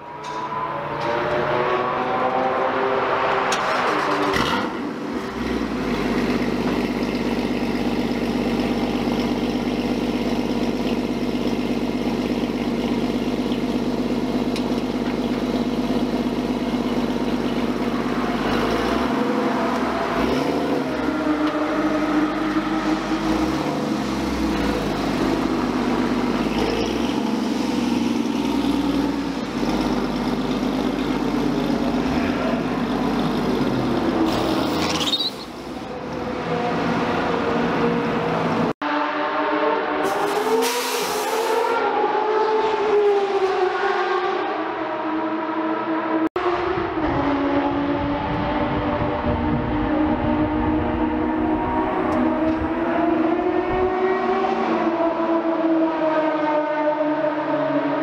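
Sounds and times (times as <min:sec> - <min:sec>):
car engine idling and revving: 0:00.0 - 0:40.6, 0:41.3 - 0:58.0.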